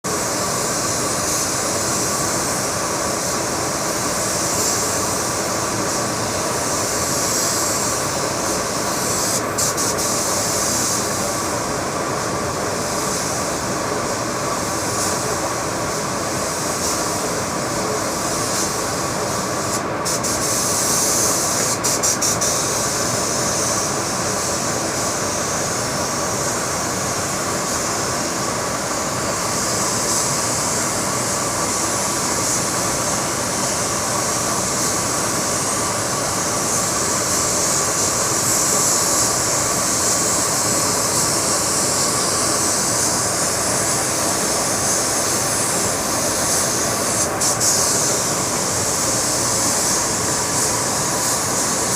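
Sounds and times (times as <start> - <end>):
compressed air spray hiss: 0.0 - 51.9.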